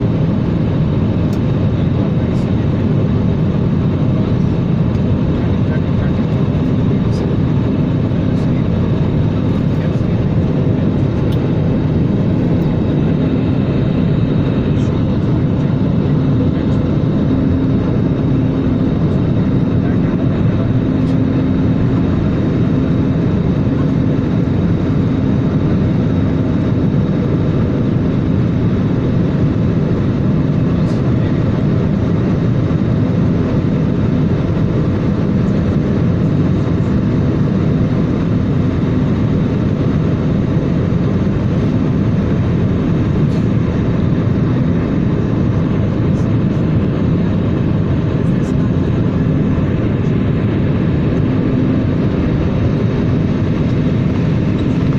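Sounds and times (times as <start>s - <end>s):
airliner cabin drone: 0.0s - 54.9s.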